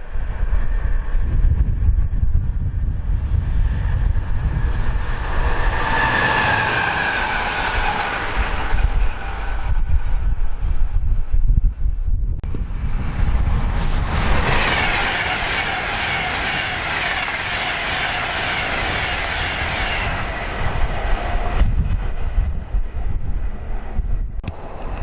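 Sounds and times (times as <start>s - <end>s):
train wheels on rails: 0.0s - 11.4s, 12.4s - 25.0s
wind buffeting microphone: 0.0s - 25.0s.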